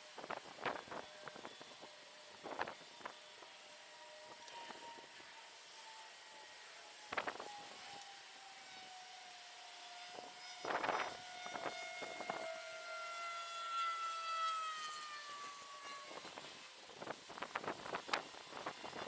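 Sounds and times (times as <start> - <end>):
siren with falling pitch: 0.2 - 19.0.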